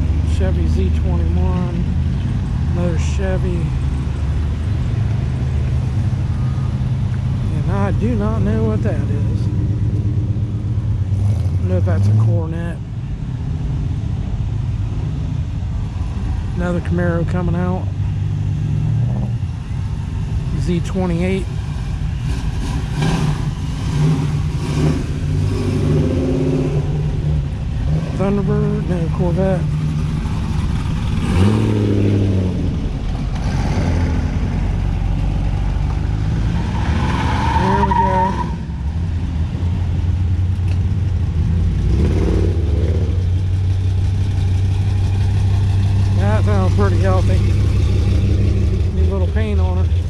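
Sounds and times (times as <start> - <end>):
car engine deep rumble: 0.0 - 50.0.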